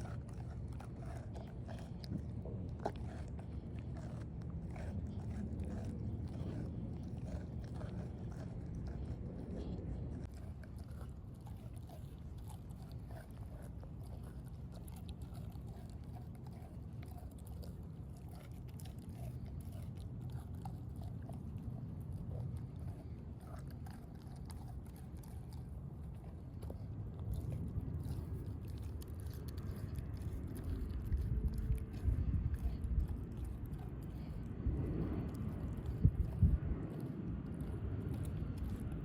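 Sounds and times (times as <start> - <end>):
puppy chewing meat: 0.0 - 39.0.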